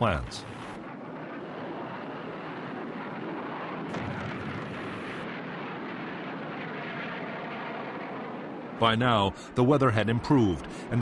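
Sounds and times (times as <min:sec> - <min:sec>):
aircraft engine noise: 0:00.0 - 0:11.0.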